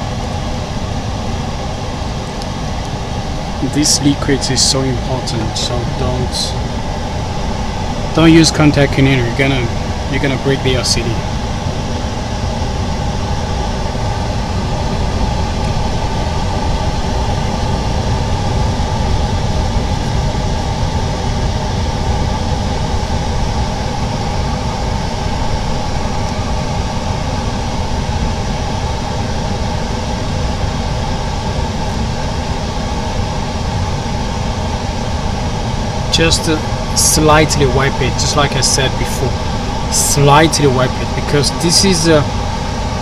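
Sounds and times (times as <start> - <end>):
faint steady hum: 0.0 - 43.0
workshop machinery drone: 0.0 - 43.0.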